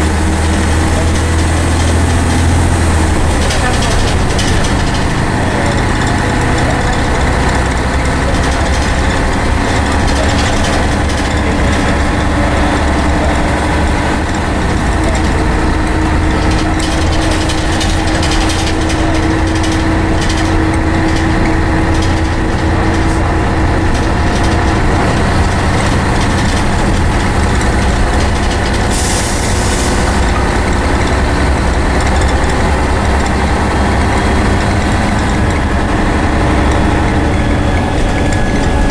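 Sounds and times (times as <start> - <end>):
bus engine droning: 0.0 - 38.9.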